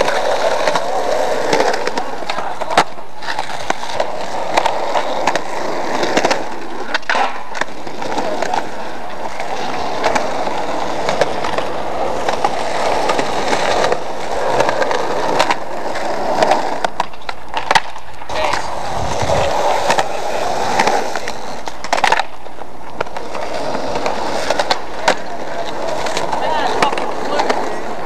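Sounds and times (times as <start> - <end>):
skateboard clacks: 0.0 - 28.0
skateboard wheels rolling on asphalt: 0.0 - 28.0.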